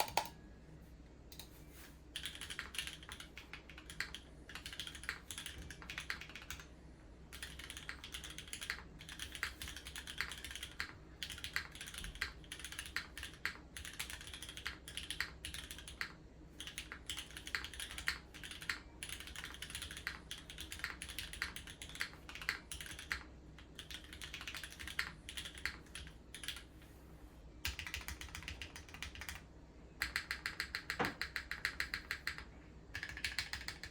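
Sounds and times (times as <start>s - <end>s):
mechanical keyboard typing: 0.0s - 0.3s, 2.2s - 6.7s, 7.3s - 26.7s, 27.6s - 29.4s, 30.0s - 33.9s.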